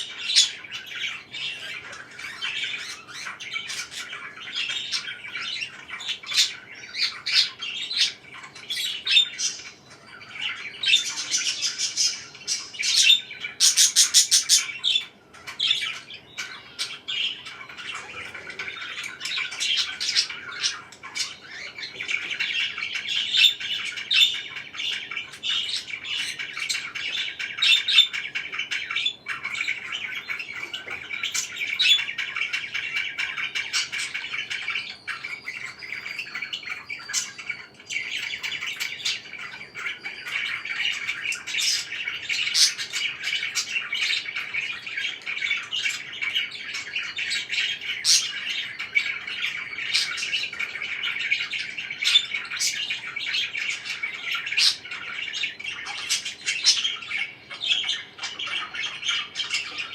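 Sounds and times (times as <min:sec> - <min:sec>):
parakeets chirping: 0:00.0 - 0:59.9
sharp loud parakeet calls: 0:00.0 - 0:59.9.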